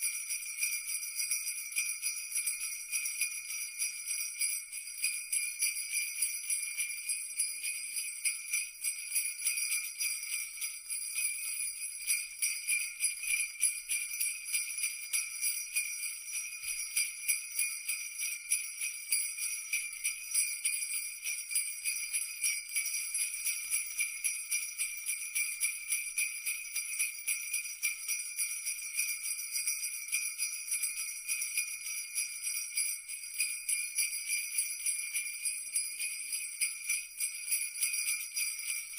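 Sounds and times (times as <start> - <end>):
sleigh bells jingling: 0.0 - 38.9.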